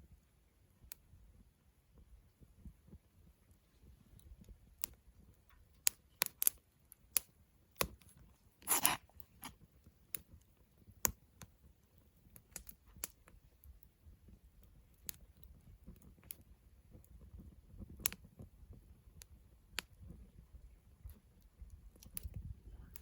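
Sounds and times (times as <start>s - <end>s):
campfire crackling and popping: 1.9s - 23.0s.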